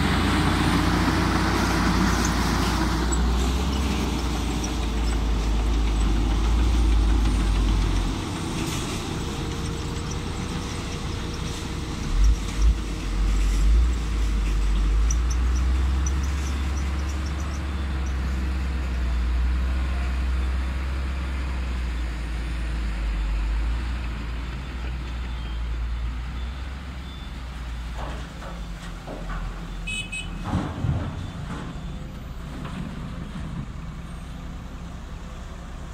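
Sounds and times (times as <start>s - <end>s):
diesel truck engine rumbling: 0.0s - 35.9s.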